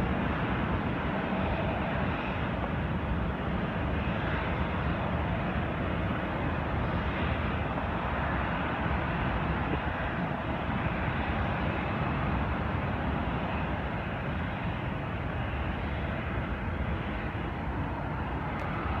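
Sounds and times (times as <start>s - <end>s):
distant jet engines: 0.0s - 19.0s.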